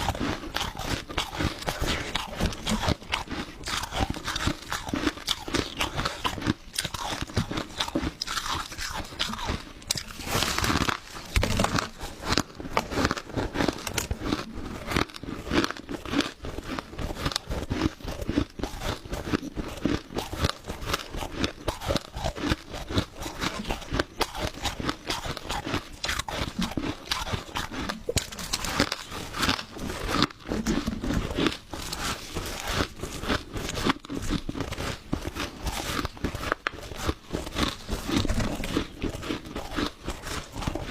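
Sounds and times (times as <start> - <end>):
crushed ice being chewed: 0.0 - 40.9.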